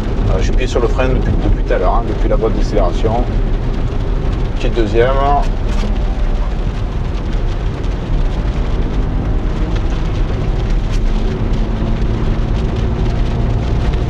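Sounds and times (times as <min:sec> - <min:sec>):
car engine and tyre noise: 0:00.0 - 0:14.0
rain hitting car: 0:00.0 - 0:14.0.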